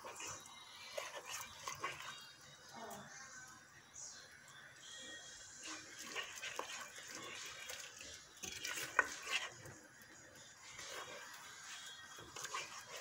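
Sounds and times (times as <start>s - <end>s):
spoon stirring thick sauce in pot: 0.0s - 3.2s, 4.8s - 13.0s.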